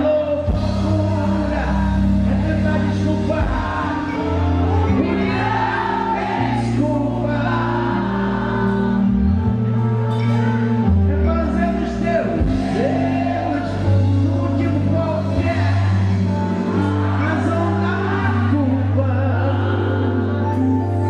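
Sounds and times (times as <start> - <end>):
band playing: 0.0 - 21.0
sustained bass notes: 0.0 - 21.0.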